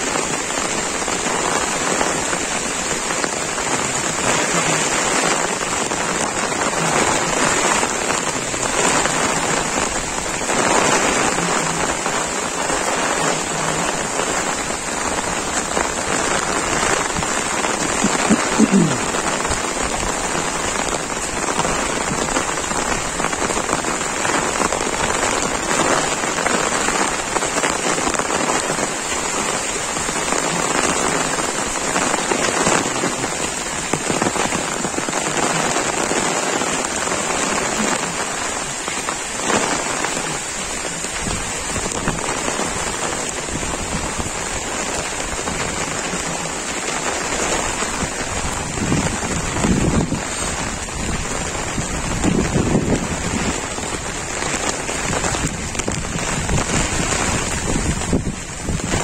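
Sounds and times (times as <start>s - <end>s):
heavy rain on umbrella: 0.0s - 59.0s
rain on wet ground: 0.0s - 59.0s.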